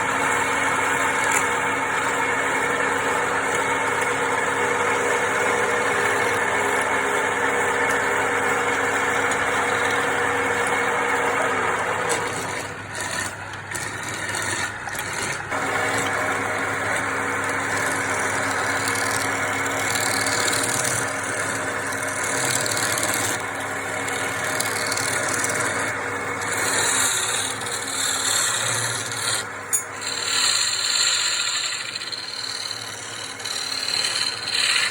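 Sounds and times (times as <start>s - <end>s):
wood lathe motor hum: 0.0s - 34.9s.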